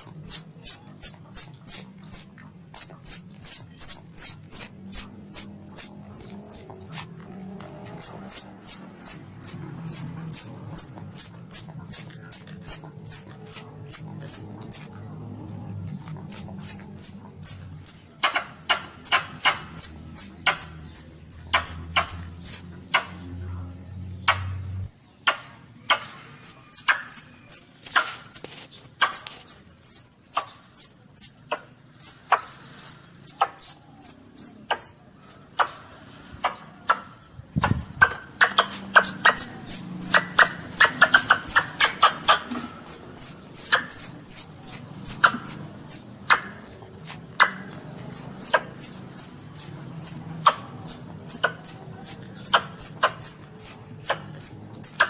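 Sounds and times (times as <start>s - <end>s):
civet squeaking: 0.0s - 23.1s, 25.9s - 35.7s, 37.6s - 55.0s.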